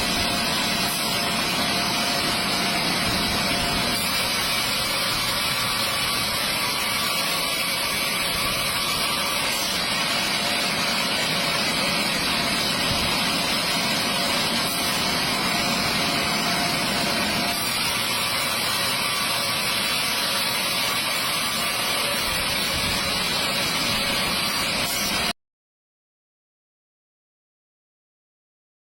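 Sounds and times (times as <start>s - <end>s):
chainsaw cutting log: 0.0s - 25.3s.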